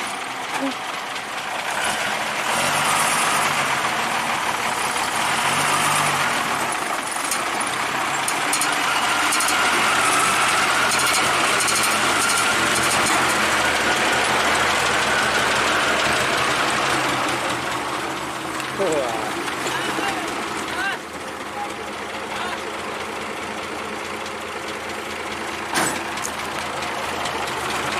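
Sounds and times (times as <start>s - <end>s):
truck engine running: 0.0s - 27.9s.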